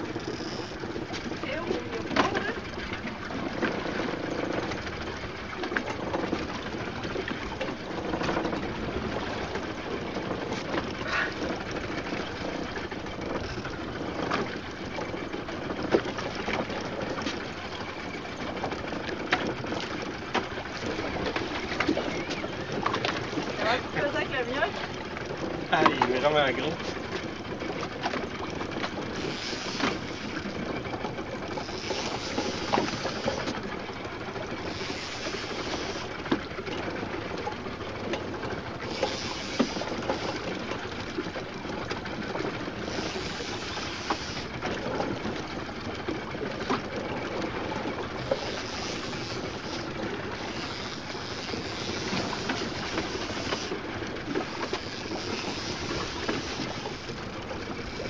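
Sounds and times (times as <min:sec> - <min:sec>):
boat and sea hiss: 0:00.0 - 0:58.0
fishing reel gears whirring: 0:00.0 - 0:58.0.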